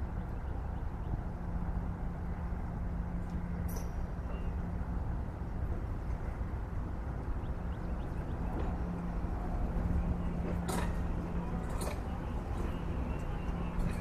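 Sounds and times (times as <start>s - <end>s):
engine hum: 0.0s - 14.0s
train low rumble: 0.0s - 14.0s.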